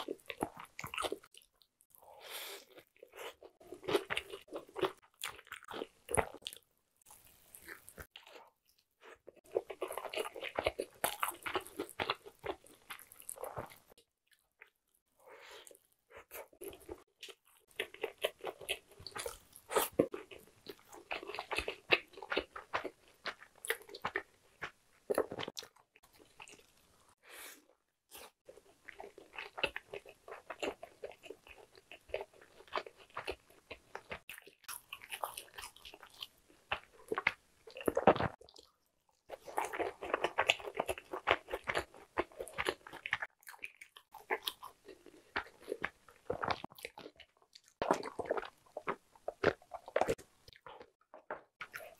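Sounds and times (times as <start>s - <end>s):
chewing crispy fried chicken: 0.0s - 27.2s, 28.1s - 51.9s.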